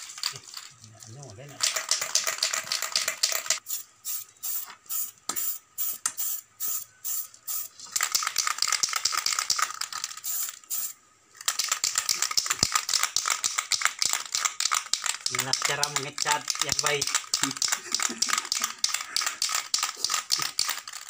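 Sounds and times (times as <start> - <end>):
spray paint can rattling: 0.0 - 21.0.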